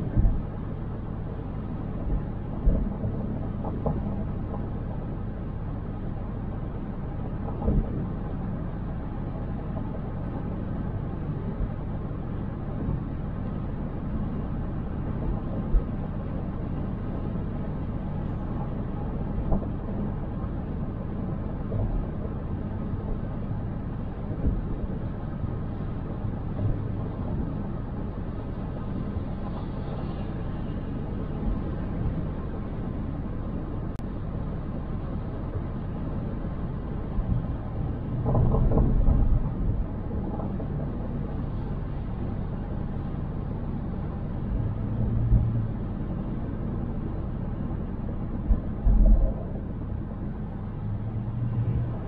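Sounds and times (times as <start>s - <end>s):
road and engine rumble: 0.0s - 52.0s.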